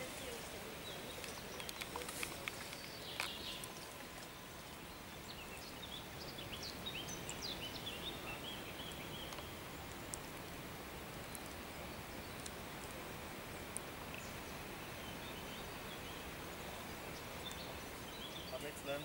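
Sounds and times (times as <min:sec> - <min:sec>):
small bird chirping: 0:00.0 - 0:19.0
steady outdoor hiss: 0:00.0 - 0:19.0.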